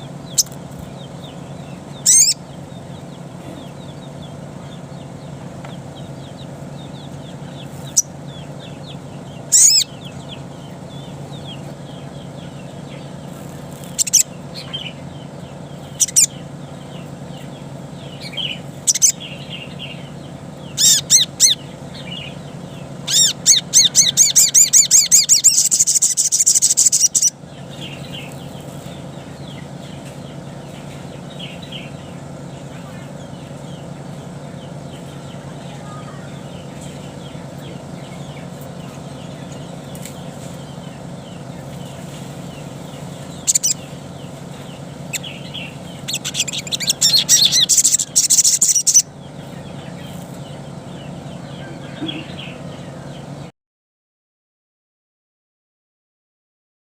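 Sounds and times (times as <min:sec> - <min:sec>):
other birds chirping: 0:00.0 - 0:53.5
steady low hum: 0:00.0 - 0:53.5.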